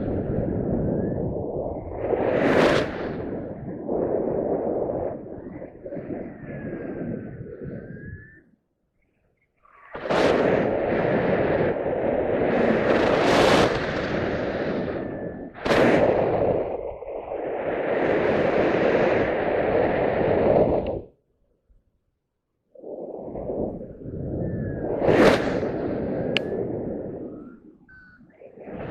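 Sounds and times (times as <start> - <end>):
wind buffeting microphone: 0.0 - 8.5, 9.7 - 21.2, 22.7 - 28.9.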